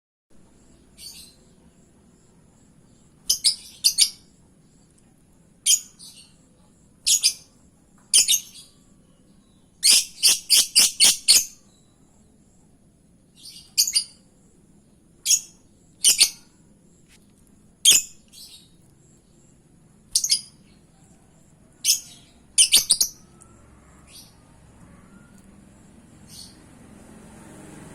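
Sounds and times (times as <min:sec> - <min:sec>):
lovebird chirping: 0:00.5 - 0:05.0, 0:05.6 - 0:12.6, 0:13.3 - 0:26.7.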